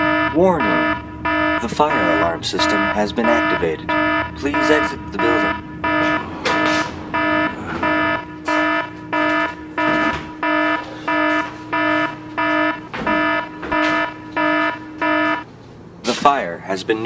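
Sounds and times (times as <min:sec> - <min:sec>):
fire alarm pulsing buzzy tone: 0:00.0 - 0:15.5.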